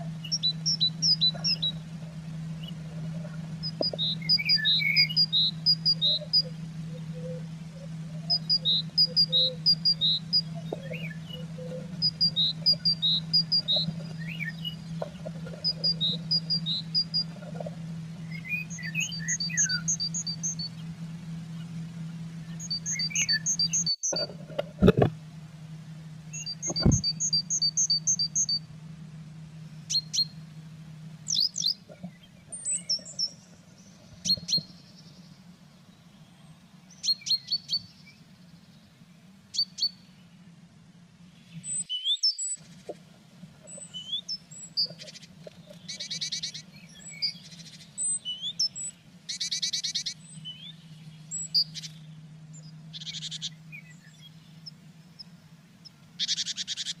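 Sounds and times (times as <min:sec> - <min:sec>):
buzzy bird trills: 0:00.0 - 0:25.0, 0:25.9 - 0:40.5, 0:41.2 - 0:57.0
low hum: 0:00.0 - 0:57.0
songbirds chirping: 0:00.0 - 0:57.0.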